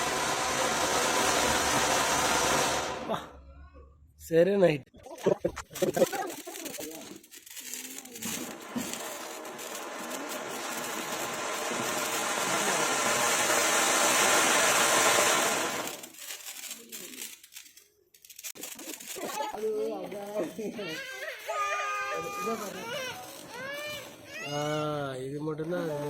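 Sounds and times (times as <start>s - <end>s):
firework fountain hissing: 0.0s - 3.4s, 5.2s - 25.0s.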